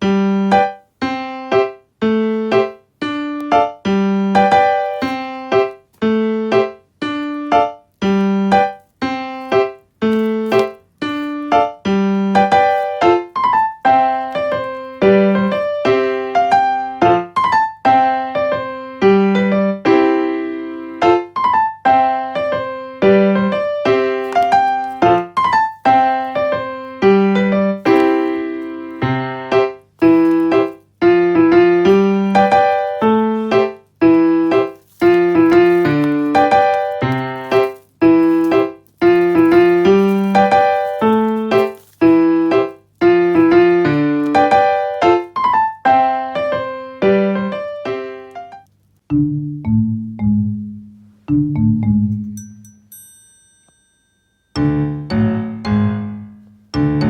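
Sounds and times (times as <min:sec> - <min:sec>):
piano melody with steady beat: 0:00.0 - 0:53.0, 0:54.6 - 0:57.0.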